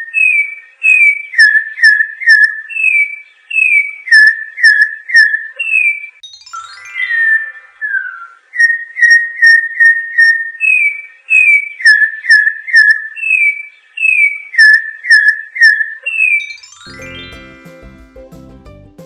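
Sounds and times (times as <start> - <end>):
bird whistling song: 0.0 - 17.3.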